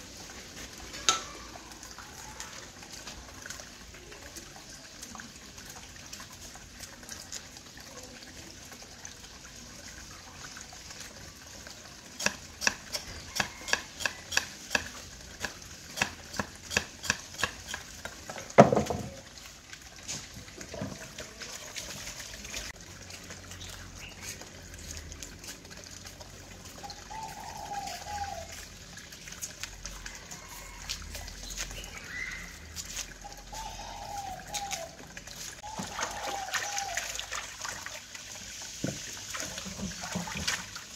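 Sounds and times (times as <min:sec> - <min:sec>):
hose water running into basin: 0:00.0 - 0:40.9.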